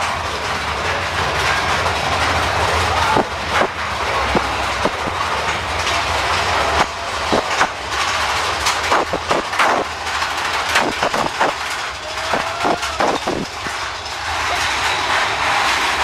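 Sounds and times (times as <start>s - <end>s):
quick clacks and knocks: 0.0s - 16.0s
ride train rumbling on track: 0.0s - 16.0s.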